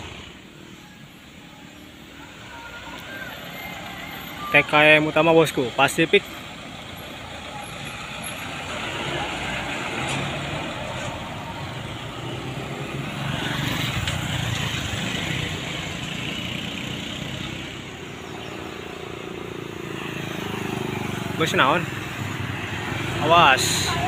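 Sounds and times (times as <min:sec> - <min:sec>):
bus diesel engine passing by: 0:00.0 - 0:24.0.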